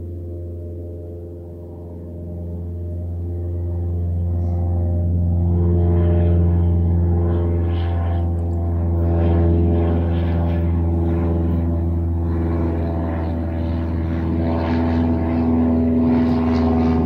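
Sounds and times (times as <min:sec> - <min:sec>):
propeller plane droning overhead: 0:00.0 - 0:17.0.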